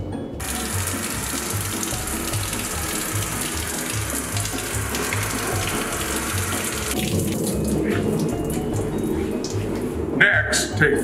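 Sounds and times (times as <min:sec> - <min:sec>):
background music with bass line: 0:00.0 - 0:11.0
shower spraying on rain jacket: 0:00.4 - 0:09.9.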